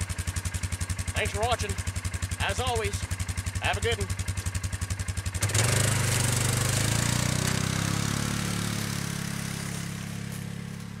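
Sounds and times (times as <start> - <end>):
small vehicle engine revving: 0.0 - 11.0.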